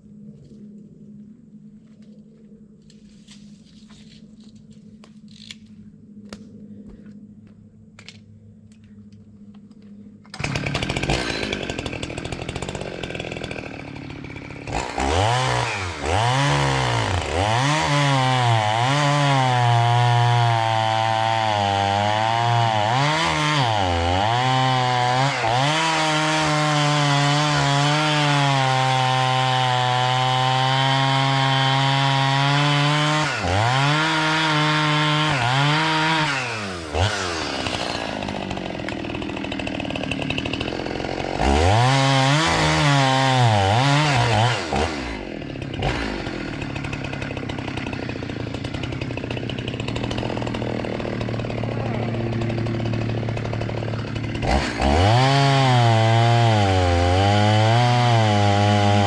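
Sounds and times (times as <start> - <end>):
chainsaw engine revving: 10.3 - 59.0.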